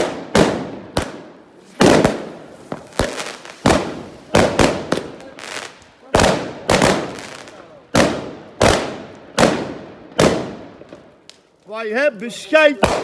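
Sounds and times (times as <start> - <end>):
fireworks banging: 0.0 - 11.5, 12.2 - 13.0.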